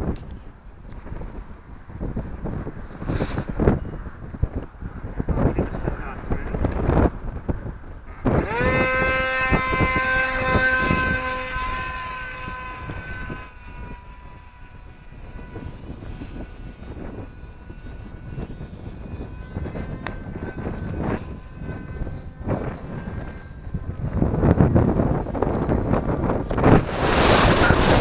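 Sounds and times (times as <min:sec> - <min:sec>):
model plane motor whining: 0:00.0 - 0:28.0
wind buffeting microphone: 0:00.0 - 0:28.0.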